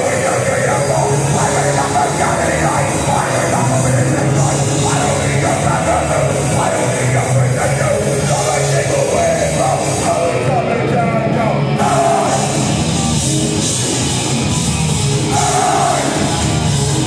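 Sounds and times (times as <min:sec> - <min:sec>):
shouted lead vocal: 0:00.0 - 0:13.2, 0:15.2 - 0:17.0
distorted electric guitars: 0:00.0 - 0:17.0
drums: 0:00.0 - 0:17.0.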